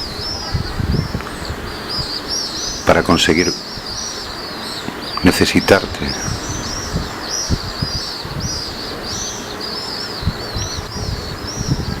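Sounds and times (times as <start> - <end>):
low background noise: 0.0 - 12.0
small birds chirping: 0.0 - 12.0.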